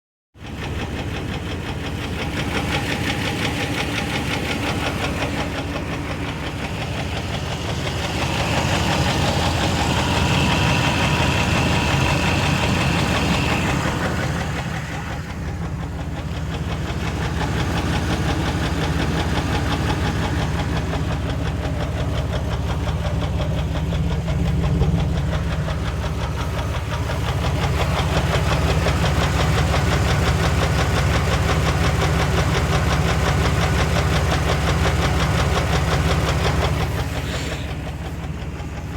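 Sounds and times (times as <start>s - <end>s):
engine running with rhythmic knock: 0.4s - 38.9s.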